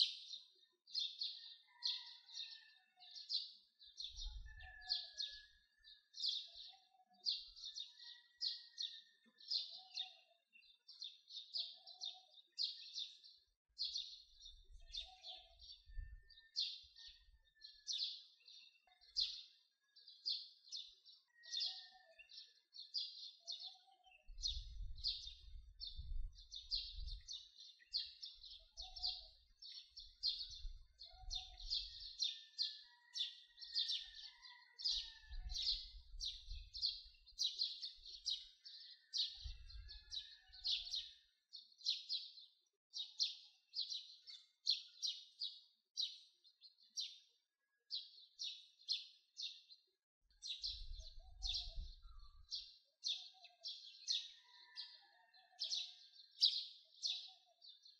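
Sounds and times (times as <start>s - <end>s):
small birds chirping: 0.0s - 54.8s.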